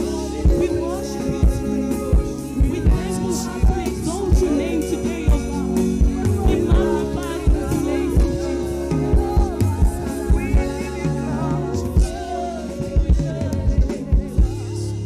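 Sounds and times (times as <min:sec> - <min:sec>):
drum beat: 0:00.0 - 0:14.8
bass line: 0:00.0 - 0:15.0
gospel singers: 0:00.0 - 0:15.0.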